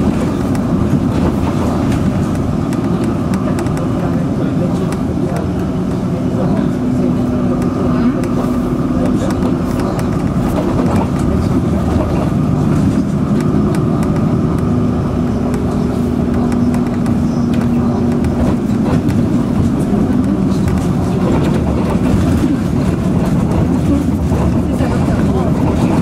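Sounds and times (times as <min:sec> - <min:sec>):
bus engine drone: 0:00.0 - 0:26.0
road rumble: 0:00.0 - 0:26.0.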